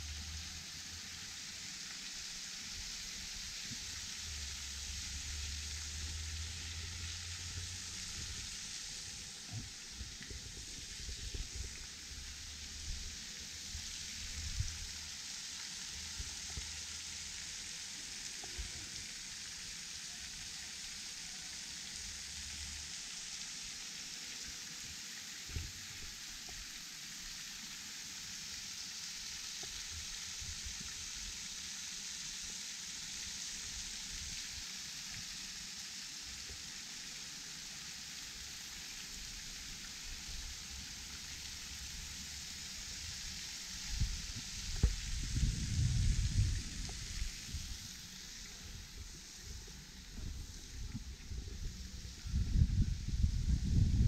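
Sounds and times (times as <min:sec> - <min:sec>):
waterfall pouring into pool: 0:00.0 - 0:54.0.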